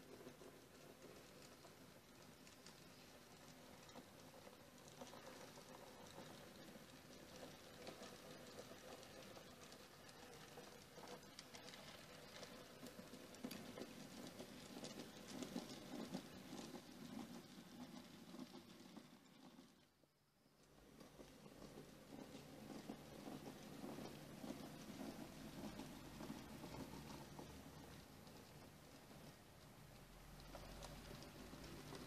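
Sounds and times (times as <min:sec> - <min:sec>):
wheels clicking over rails: 0:00.0 - 0:19.9, 0:20.6 - 0:32.0.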